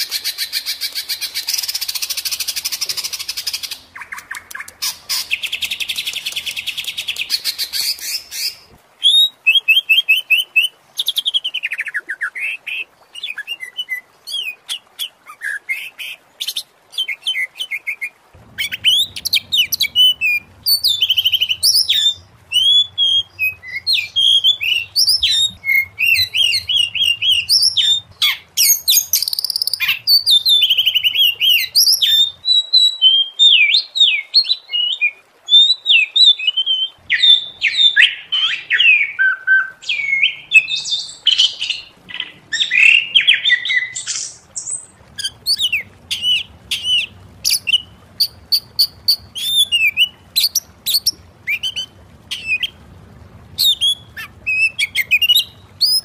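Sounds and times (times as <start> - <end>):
bird singing whistled phrases: 4.0 - 15.8, 16.4 - 52.8, 53.6 - 56.0.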